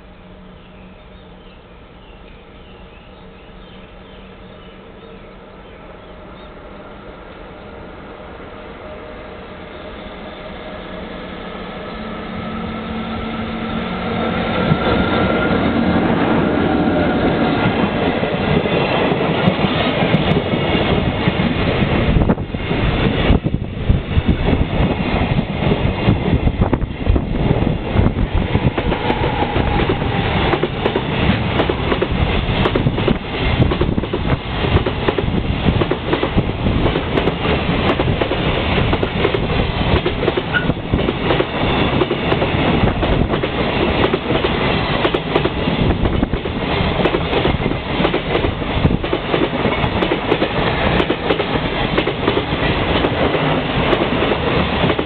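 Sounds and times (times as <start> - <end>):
electric locomotive whine: 0.0 - 55.0.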